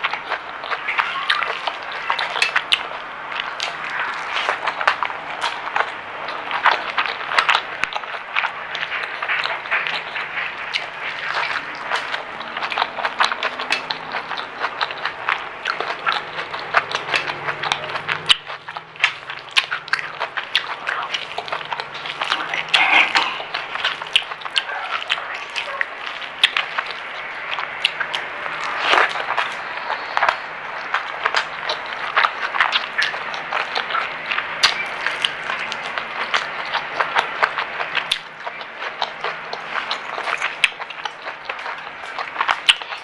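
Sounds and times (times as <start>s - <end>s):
crunchy food chewing: 0.0s - 43.0s.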